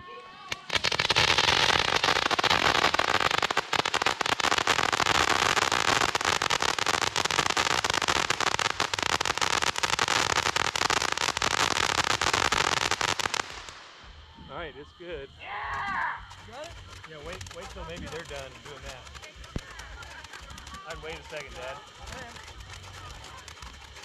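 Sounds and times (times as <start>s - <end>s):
firecrackers popping: 0.0s - 24.0s.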